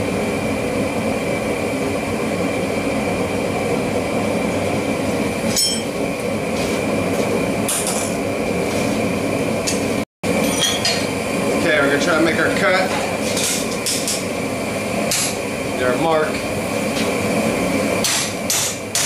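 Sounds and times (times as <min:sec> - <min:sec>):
gas burner roaring: 0:00.0 - 0:19.0.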